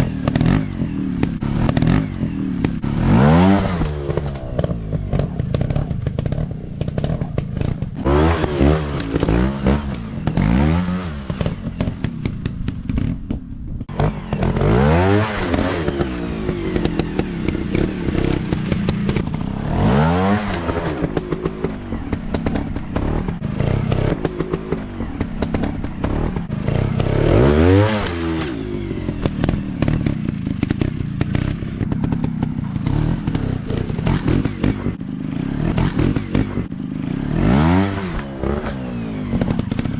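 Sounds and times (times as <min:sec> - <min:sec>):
dirt bike engines revving: 0:00.0 - 0:13.2, 0:13.8 - 0:39.9.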